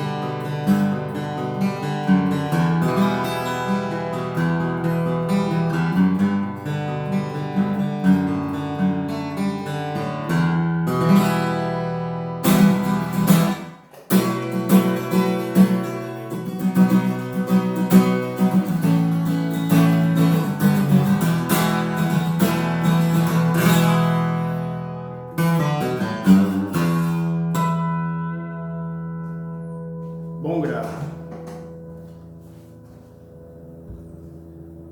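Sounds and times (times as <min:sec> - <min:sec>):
acoustic guitar chords: 0:00.0 - 0:34.9.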